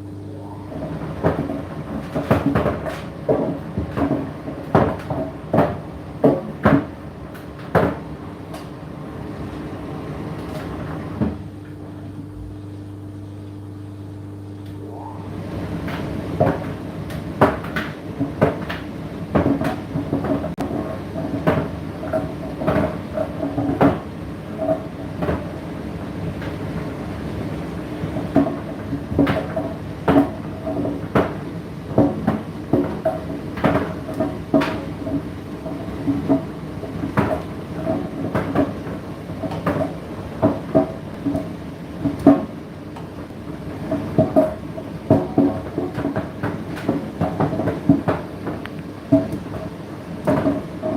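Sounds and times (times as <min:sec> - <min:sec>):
tumble dryer hum: 0:00.0 - 0:50.9
load tumbling in dryer drum: 0:00.5 - 0:12.5, 0:14.9 - 0:50.9.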